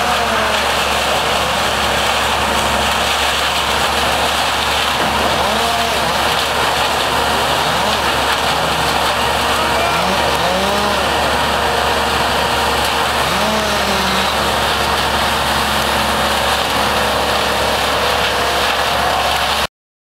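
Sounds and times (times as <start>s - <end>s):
engine pitch rising and falling: 0.0s - 19.7s
loud rushing noise: 0.0s - 19.7s.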